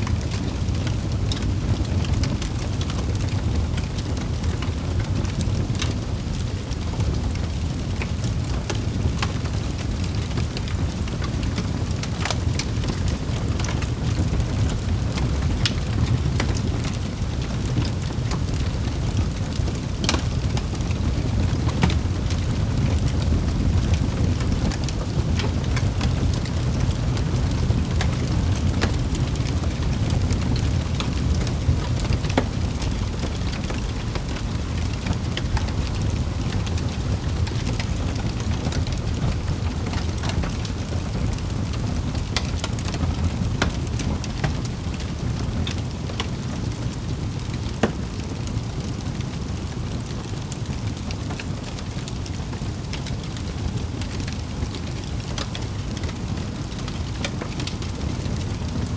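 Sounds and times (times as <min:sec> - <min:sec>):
crackles and pops of wood: 0:00.0 - 0:58.9
fire burning in fireplace: 0:00.0 - 0:58.9.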